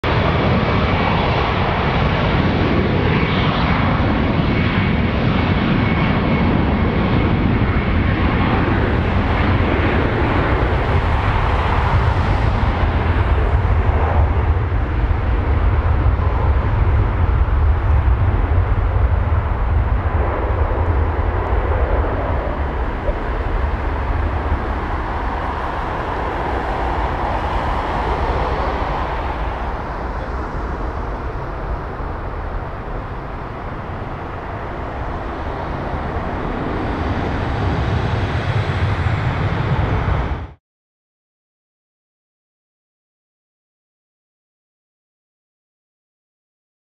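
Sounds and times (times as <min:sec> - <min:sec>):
jet engines at takeoff: 0:00.0 - 0:40.6
high jet whine: 0:00.1 - 0:40.6.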